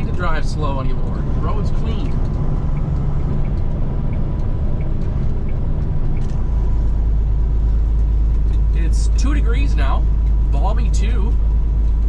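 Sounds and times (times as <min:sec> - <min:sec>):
diesel truck engine under load: 0:00.0 - 0:12.0
road noise: 0:00.0 - 0:12.0.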